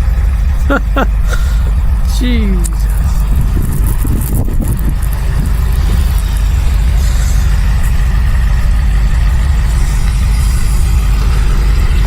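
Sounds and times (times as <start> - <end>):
blizzard wind gusting: 0.1 - 12.0.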